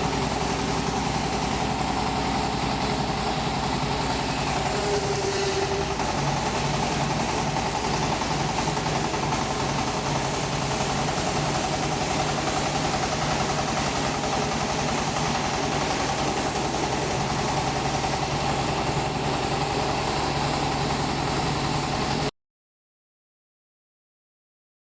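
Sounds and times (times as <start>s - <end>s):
excavator engine running: 0.0s - 22.3s.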